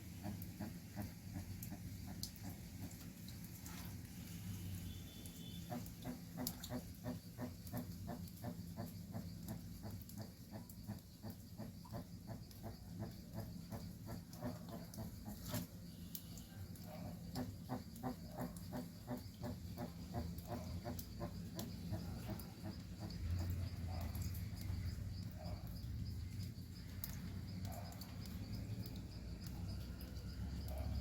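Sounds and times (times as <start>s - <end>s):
tortoise clucking: 0.0s - 31.0s.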